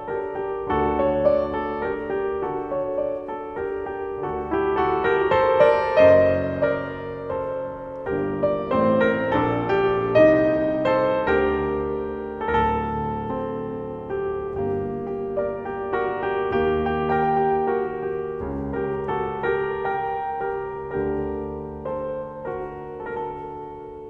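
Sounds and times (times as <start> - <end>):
soft piano music: 0.0 - 24.0.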